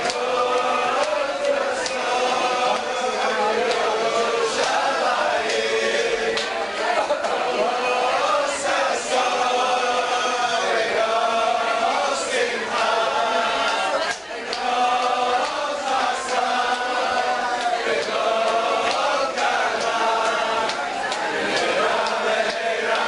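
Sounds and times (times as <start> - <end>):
men singing in unison: 0.0 - 23.0.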